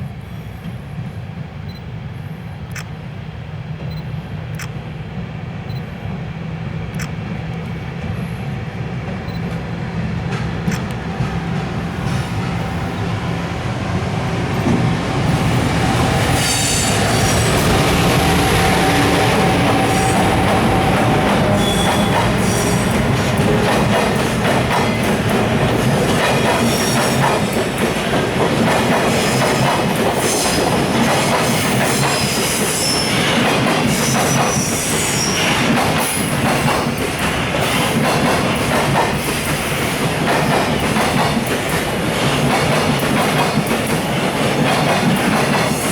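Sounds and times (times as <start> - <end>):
train wheels clacking: 9.0 - 45.9.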